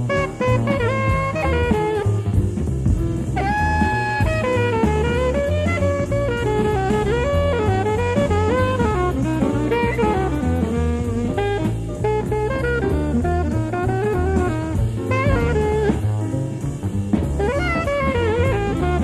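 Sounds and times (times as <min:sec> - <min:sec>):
alto saxophone melody: 0:00.0 - 0:19.0
drum kit: 0:00.0 - 0:19.0
walking bass: 0:00.0 - 0:19.0.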